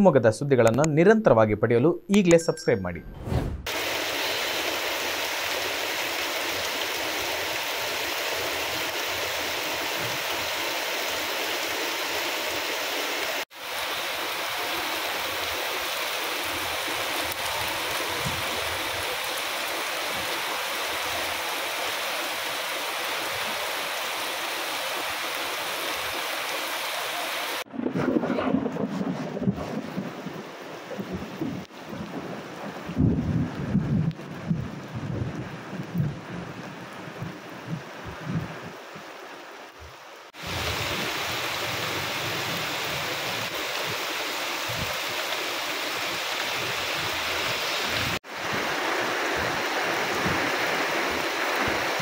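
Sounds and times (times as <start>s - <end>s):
heavy rain pouring: 3.7s - 52.0s.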